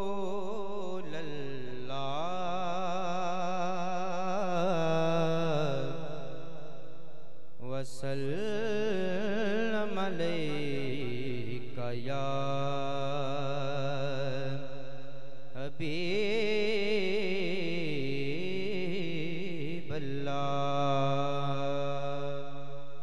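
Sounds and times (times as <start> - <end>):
man singing into a microphone: 0.0 - 6.9, 7.6 - 23.0.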